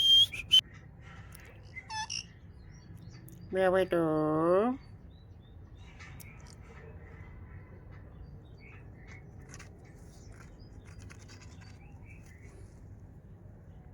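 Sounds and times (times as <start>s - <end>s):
low background hum: 0.0s - 13.9s.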